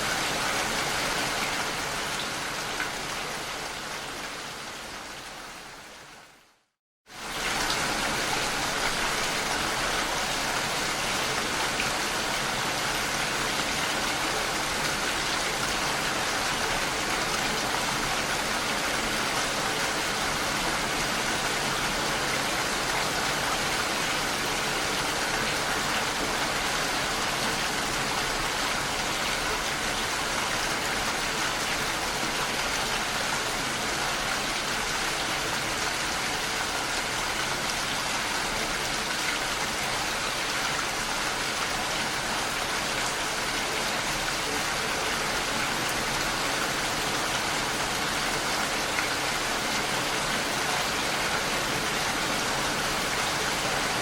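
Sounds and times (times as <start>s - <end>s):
dense rain: 0.0s - 54.0s.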